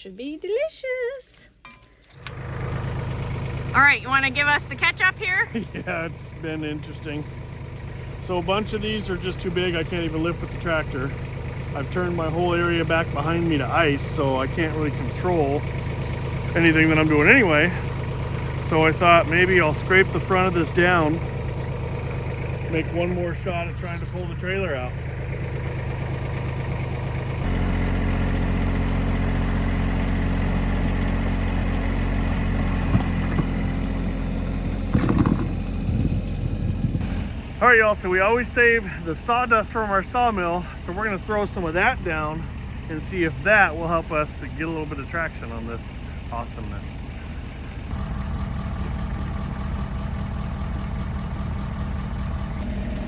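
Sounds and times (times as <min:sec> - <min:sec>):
tractor engine running: 0:02.0 - 0:53.0.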